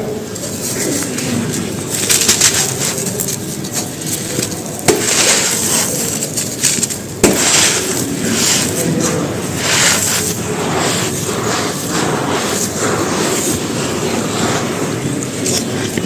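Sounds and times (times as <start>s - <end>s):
stone crunching and crackling: 0.4s - 16.0s.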